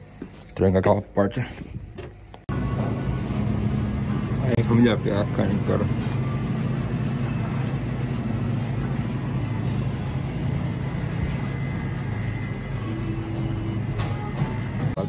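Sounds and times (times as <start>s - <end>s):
refrigerated display cases humming: 1.8s - 15.0s.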